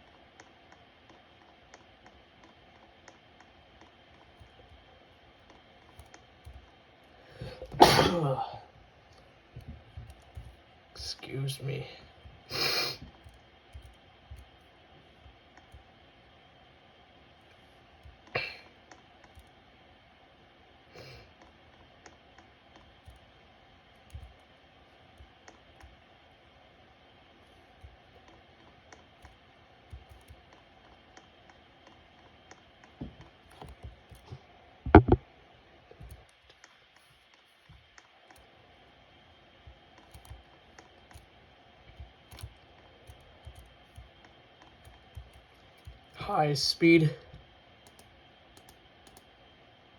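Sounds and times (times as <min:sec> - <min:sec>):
ceiling fan humming: 0:00.0 - 0:49.9.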